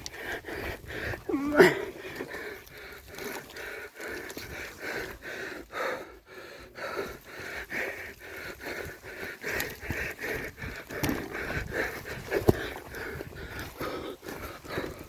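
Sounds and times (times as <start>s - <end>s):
person panting: 0.0s - 15.0s.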